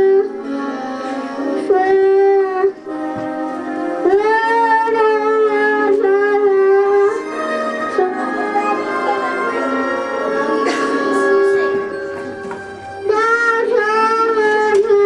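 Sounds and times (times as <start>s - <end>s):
child singing into microphone: 0.0s - 2.9s, 4.0s - 12.0s, 13.0s - 15.0s
backing music: 0.0s - 15.0s.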